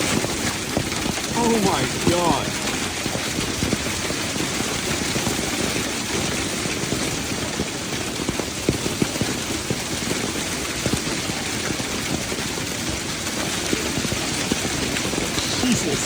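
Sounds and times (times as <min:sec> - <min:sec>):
heavy rain falling: 0:00.0 - 0:16.0
raindrops tapping on a surface: 0:00.0 - 0:16.0.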